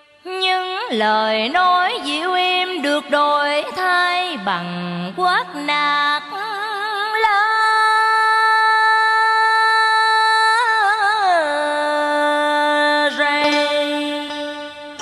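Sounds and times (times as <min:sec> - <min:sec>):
woman singing long notes: 0:00.2 - 0:15.0.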